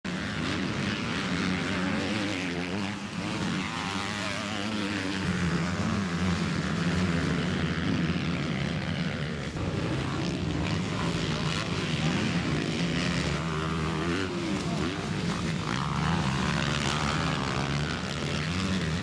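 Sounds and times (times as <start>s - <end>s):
motocross bikes revving: 0.1s - 19.0s.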